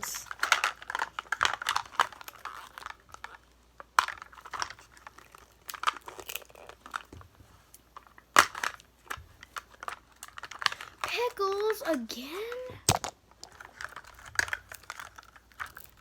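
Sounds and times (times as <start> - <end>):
small plastic pieces clicking: 0.0 - 7.2, 8.0 - 11.8, 12.5 - 16.0
plastic wrapping crinkling: 0.0 - 16.0.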